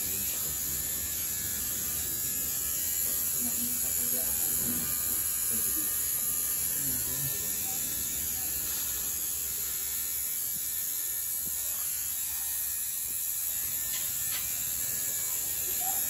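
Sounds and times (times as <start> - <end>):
small motor buzzing: 0.0 - 16.0.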